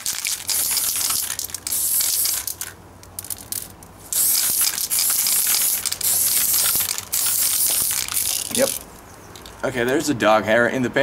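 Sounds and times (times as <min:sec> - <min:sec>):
spray paint can hissing: 0:00.0 - 0:08.9.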